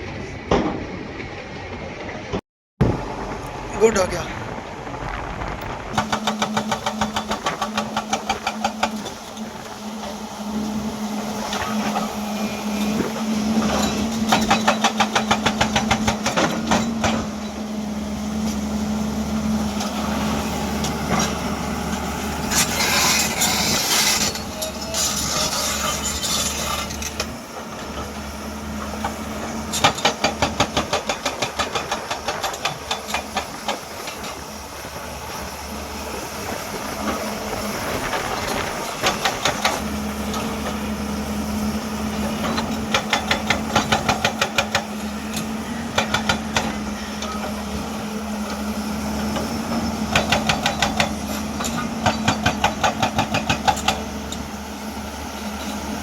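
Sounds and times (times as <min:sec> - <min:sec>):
diesel engine running: 0:00.0 - 0:56.0
hydraulic breaker pounding rock: 0:05.9 - 0:36.0, 0:36.9 - 0:54.7.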